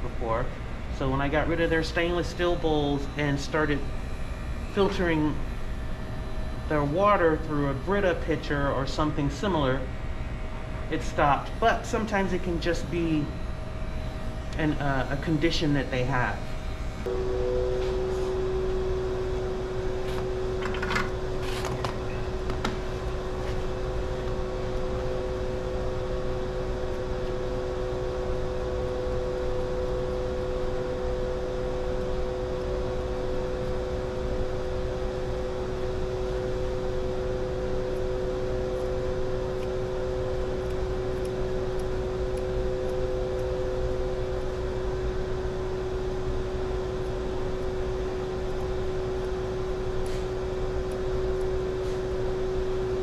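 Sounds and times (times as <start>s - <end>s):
mechanical hum with low rumble: 0.0s - 53.0s.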